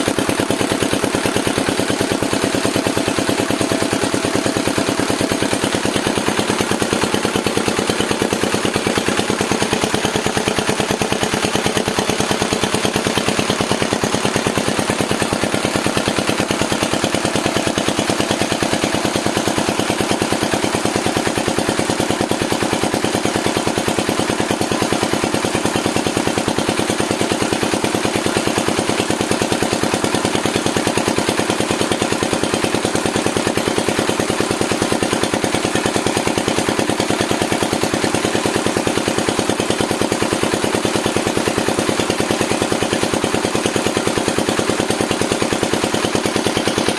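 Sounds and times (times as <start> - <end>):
diesel pump engine chugging: 0.0 - 46.9.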